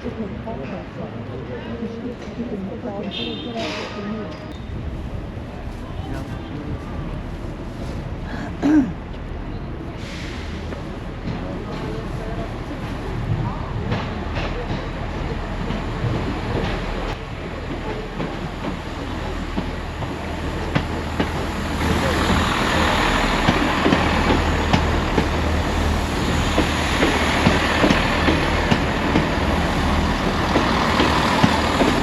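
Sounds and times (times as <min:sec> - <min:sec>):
street noise: 0:00.0 - 0:32.0.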